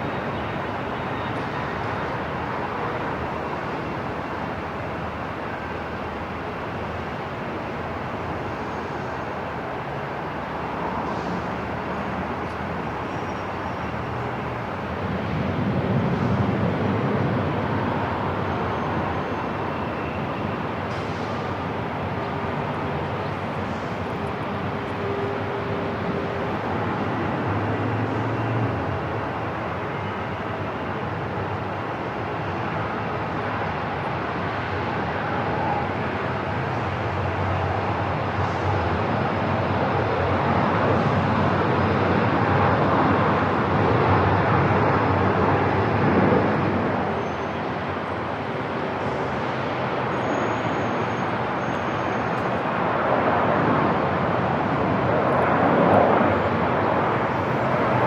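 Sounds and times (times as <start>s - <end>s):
aircraft and building rumble: 0.2s - 51.6s, 52.2s - 58.0s.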